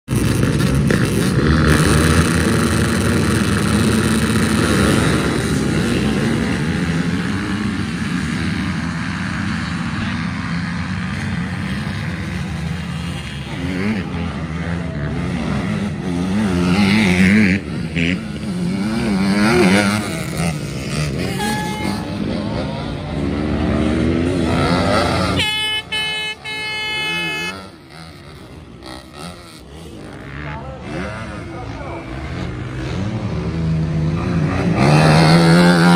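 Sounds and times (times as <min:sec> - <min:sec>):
quad bike engines revving: 0:00.1 - 0:35.9.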